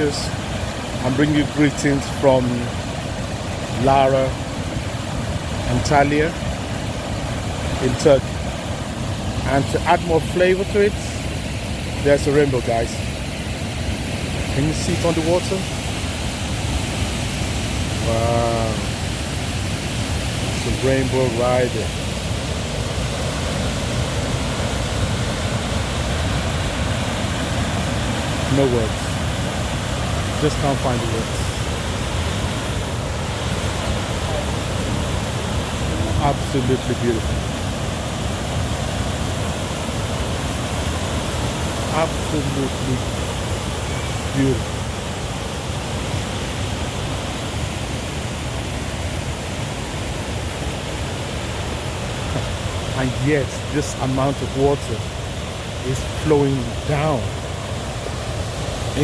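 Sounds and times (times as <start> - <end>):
rush of falling water: 0.0 - 59.0.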